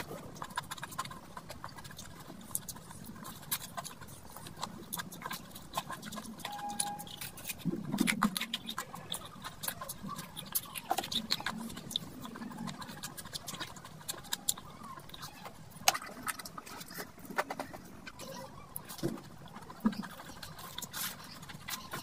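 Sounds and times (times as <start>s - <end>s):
wet chewing and lip smacks: 0.0s - 22.0s.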